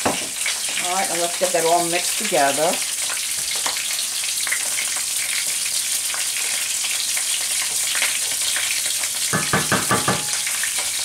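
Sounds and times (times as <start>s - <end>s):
food sizzling in pans: 0.0s - 11.0s.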